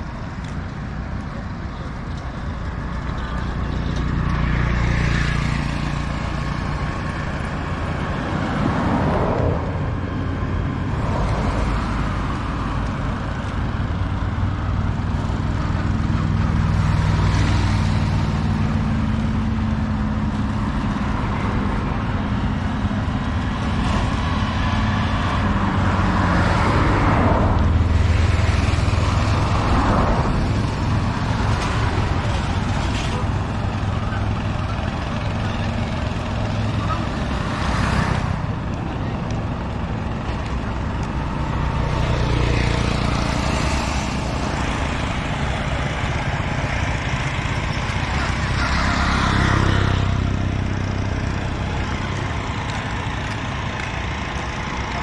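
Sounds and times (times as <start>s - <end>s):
auto-rickshaws passing: 0.0s - 55.0s
motorcycles passing: 0.0s - 55.0s
traffic engine rumble: 0.0s - 55.0s.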